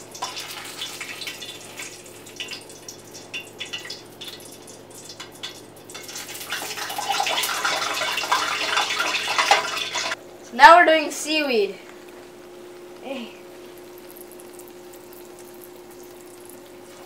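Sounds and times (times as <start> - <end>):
oil popping: 0.0 - 10.2, 12.0 - 17.0
sausage sizzling in a pan: 0.0 - 10.2, 12.2 - 17.0.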